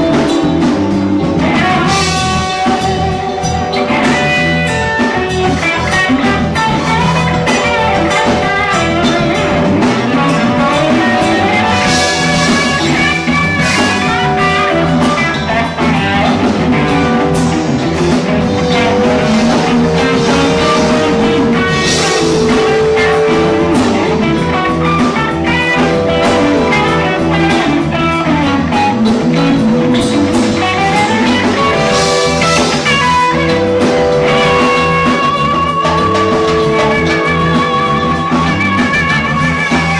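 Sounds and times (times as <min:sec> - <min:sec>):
electric guitar lines: 0:00.0 - 0:39.9
rock band playing: 0:00.0 - 0:39.9.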